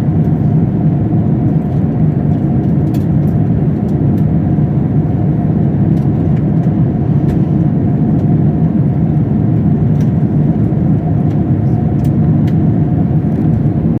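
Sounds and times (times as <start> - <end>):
airplane cabin engine roar: 0.0 - 14.0
faint hum: 0.0 - 14.0.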